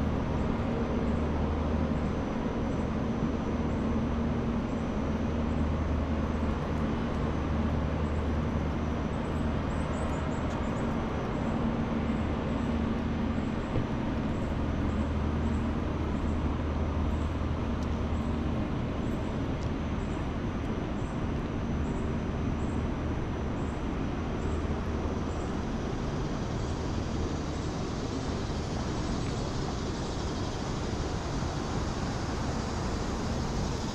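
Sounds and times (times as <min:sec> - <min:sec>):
low engine-like hum: 0:00.0 - 0:33.9.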